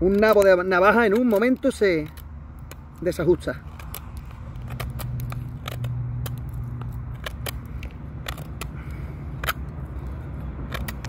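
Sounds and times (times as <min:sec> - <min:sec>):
knife carving wood: 0:00.0 - 0:11.0.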